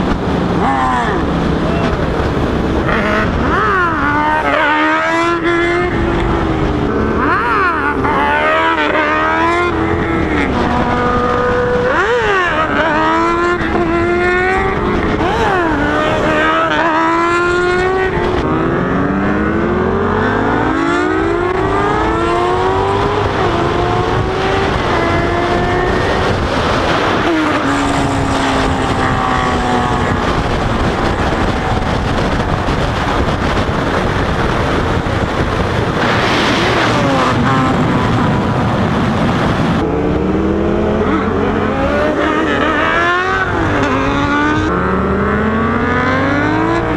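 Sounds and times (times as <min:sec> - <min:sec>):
motorcycle engine accelerating: 0:00.0 - 0:46.9
wind rush: 0:00.0 - 0:46.9.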